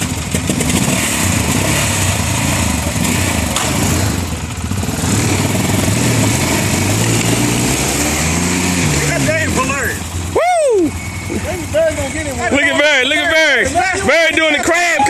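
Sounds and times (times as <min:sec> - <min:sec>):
atv engine running hard: 0:00.0 - 0:14.6.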